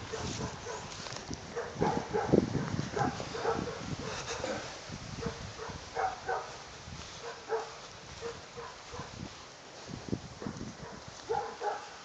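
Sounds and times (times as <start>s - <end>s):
dogs barking: 0.0s - 6.6s, 7.2s - 9.2s, 10.4s - 12.0s.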